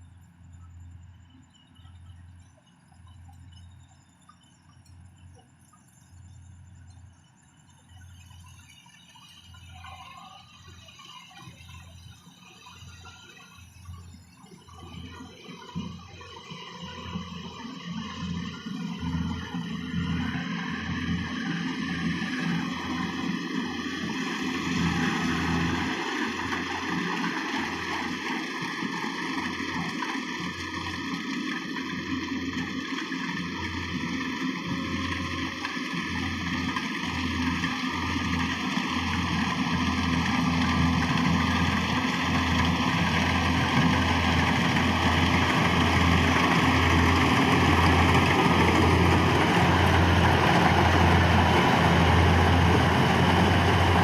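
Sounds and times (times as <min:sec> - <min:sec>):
combine harvester engine running: 0:08.0 - 0:54.0.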